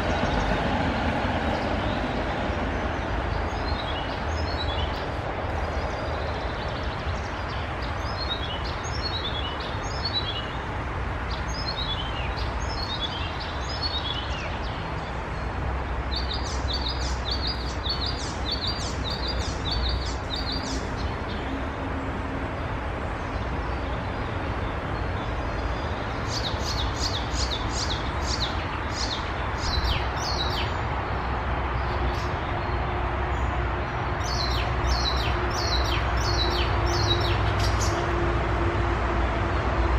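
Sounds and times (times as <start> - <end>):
songbirds singing: 0.0 - 38.3.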